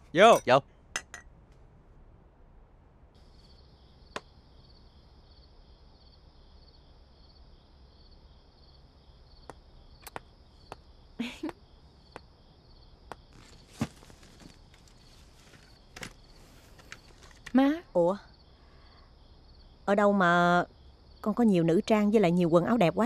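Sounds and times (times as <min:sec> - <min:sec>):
crickets chirping: 0:03.2 - 0:23.0.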